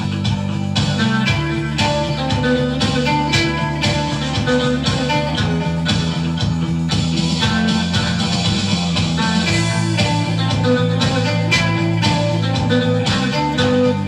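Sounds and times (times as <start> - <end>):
bass line: 0.0 - 14.0
drum beat: 0.0 - 14.0
electric guitar melody: 0.0 - 14.0.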